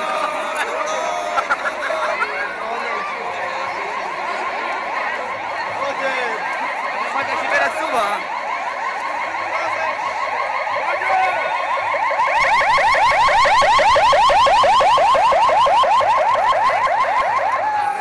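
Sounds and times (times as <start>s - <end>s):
ambulance siren yelping: 0.0s - 18.0s.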